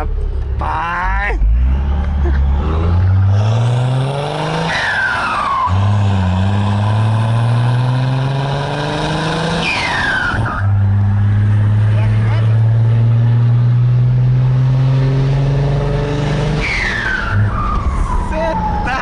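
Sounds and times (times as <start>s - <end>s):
diesel truck accelerating: 0.0s - 19.0s.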